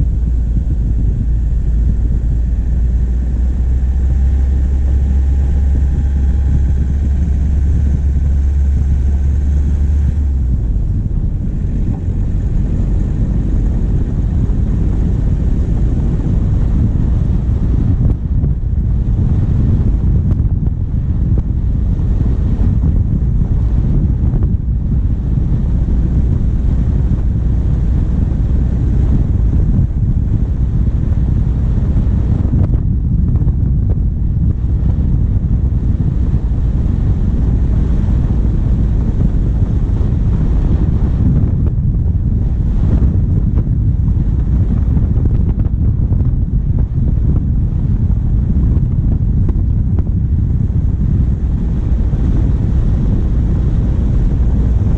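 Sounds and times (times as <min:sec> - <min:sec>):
diesel engine running: 0:00.0 - 0:54.9
wind noise on microphone: 0:00.0 - 0:54.9.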